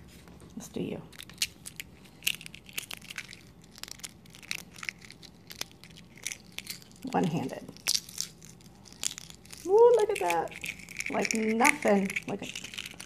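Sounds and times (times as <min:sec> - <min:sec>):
eggshell crackling: 0:00.0 - 0:13.0.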